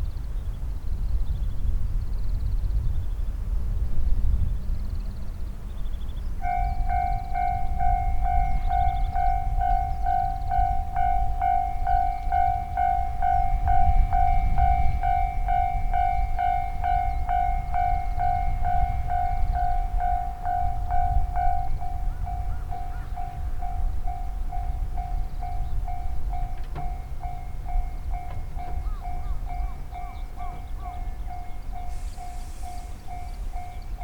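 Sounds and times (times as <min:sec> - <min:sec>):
level crossing warning bell: 0:06.4 - 0:34.0.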